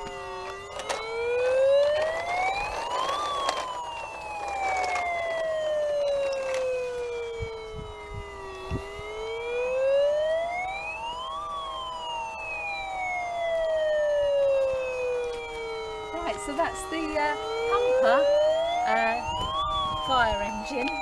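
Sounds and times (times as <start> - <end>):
toy siren wailing: 0.0 - 21.0.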